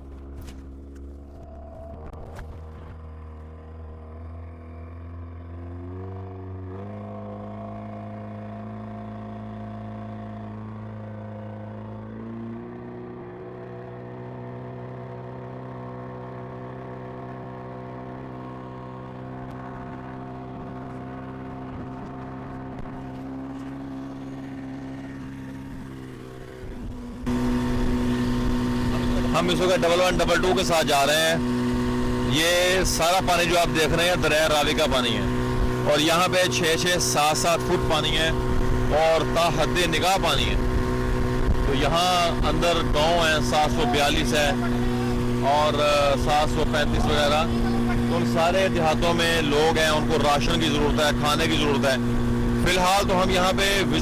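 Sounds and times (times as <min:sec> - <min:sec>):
vehicle engine speeding up: 0:00.0 - 0:54.0.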